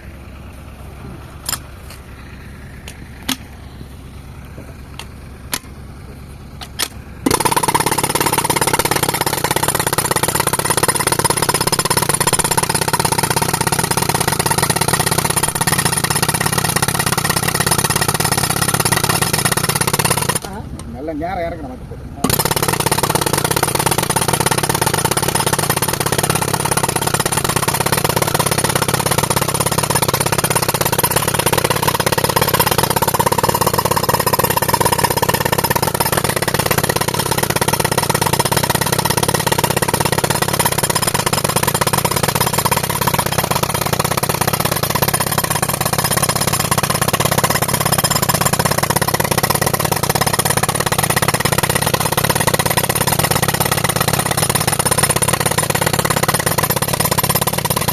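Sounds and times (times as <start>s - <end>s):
tractor engine running: 0.0s - 57.9s
pneumatic rock breaker hammering: 1.0s - 2.2s, 2.8s - 3.5s, 4.5s - 5.8s, 6.6s - 20.9s, 22.2s - 57.9s.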